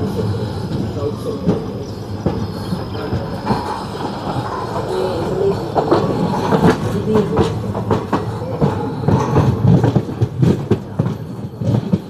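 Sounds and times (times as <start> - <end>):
train rumbling on rails: 0.0 - 12.0
wheels clattering over rail joints: 0.0 - 12.0.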